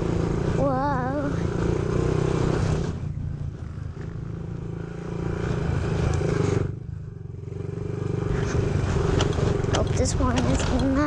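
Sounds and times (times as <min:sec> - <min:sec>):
dirt bike engine revving: 0:00.0 - 0:09.9.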